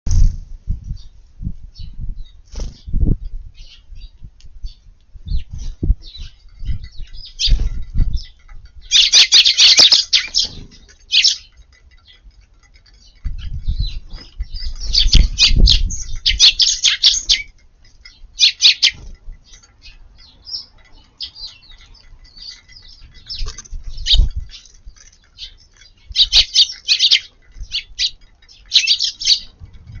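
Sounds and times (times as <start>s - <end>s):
sparrows chirping: 0.1s - 30.0s.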